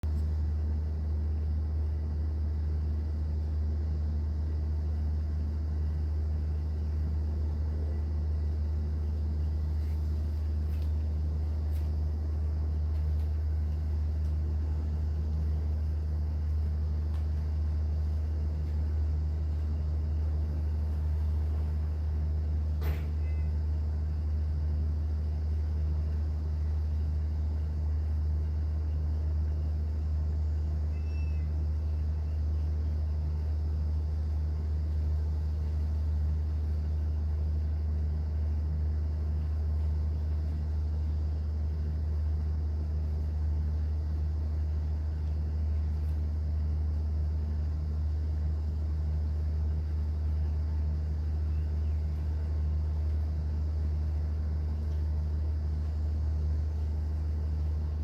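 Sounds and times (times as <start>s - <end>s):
boat engine drone: 0.2s - 58.0s.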